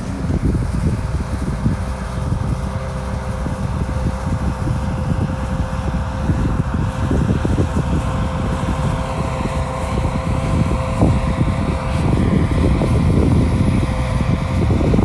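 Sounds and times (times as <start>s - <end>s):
diesel engine running: 0.0s - 15.0s
wind buffeting microphone: 0.0s - 15.0s.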